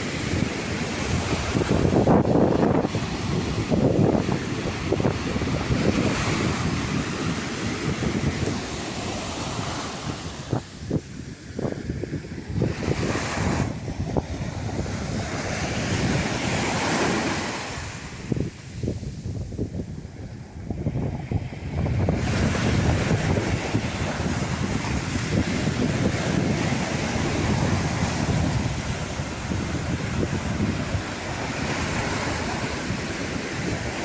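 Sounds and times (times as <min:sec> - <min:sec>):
sea waves breaking on a beach: 0:00.0 - 0:34.0
wind buffeting the microphone: 0:00.0 - 0:34.0.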